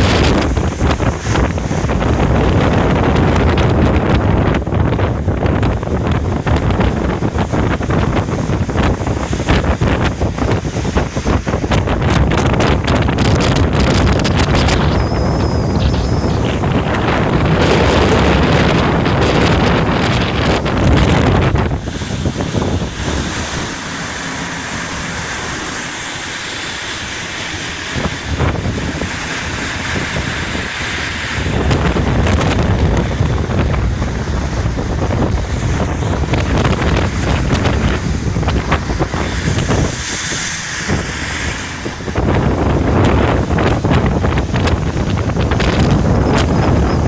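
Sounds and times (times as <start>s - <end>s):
low drone of diesel engines: 0.0s - 47.0s
water rushing past boat hull: 0.0s - 47.0s
wind buffeting microphone: 0.0s - 47.0s.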